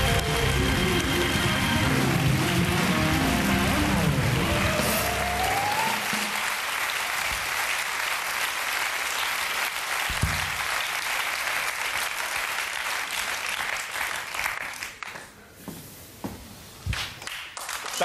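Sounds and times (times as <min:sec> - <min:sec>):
audience applauding: 0:00.0 - 0:15.4, 0:16.9 - 0:18.0.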